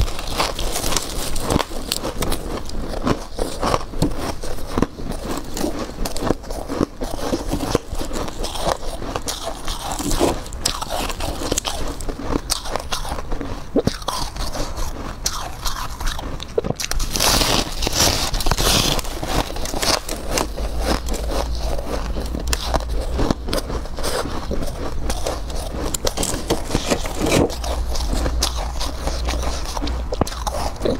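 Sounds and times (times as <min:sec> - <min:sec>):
crunching frozen frost: 0:00.0 - 0:30.9.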